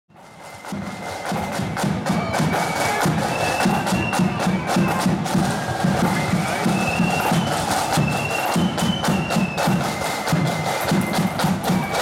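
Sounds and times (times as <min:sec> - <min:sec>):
high flute melody: 0:00.1 - 0:12.0
snare and bass drums: 0:00.1 - 0:12.0.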